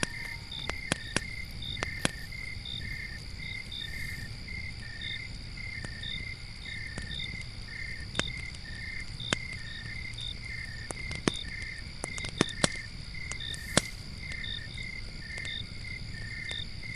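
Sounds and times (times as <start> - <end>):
campfire crackling and popping: 0.0 - 16.9
crickets chirping: 0.0 - 16.9.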